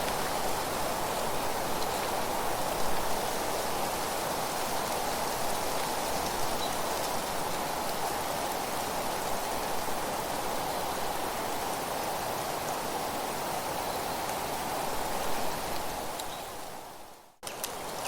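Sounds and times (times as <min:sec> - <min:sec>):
nature ambience rushing hiss: 0:00.0 - 0:18.0.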